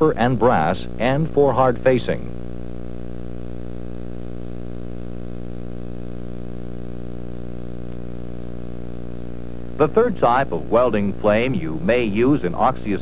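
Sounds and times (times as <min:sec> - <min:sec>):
buzzy electrical hum: 0:00.0 - 0:13.0.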